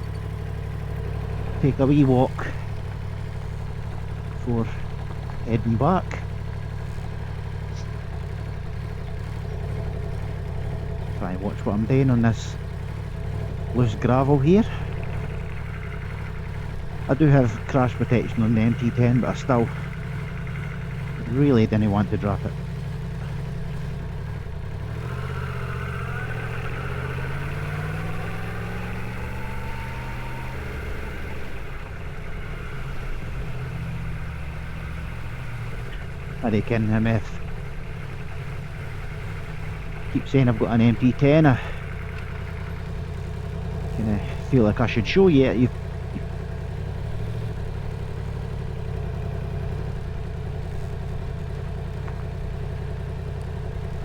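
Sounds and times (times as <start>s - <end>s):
tyres rolling over gravel: 0.0s - 26.0s, 31.3s - 54.0s
motorcycle engine at low revs: 0.0s - 54.0s.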